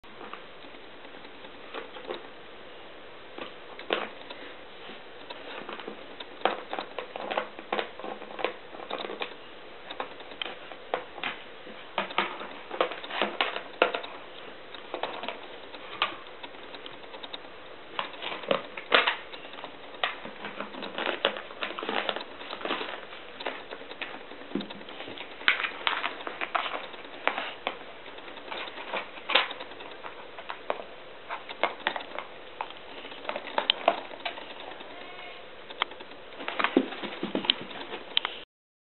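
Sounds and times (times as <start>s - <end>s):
puppy chewing plastic frisbee: 5.2s - 38.4s.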